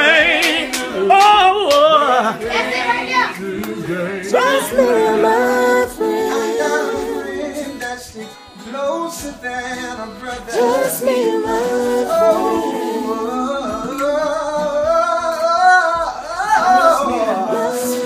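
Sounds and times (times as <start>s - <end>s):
guitar playing: 0.0s - 18.0s
person singing: 0.0s - 18.0s.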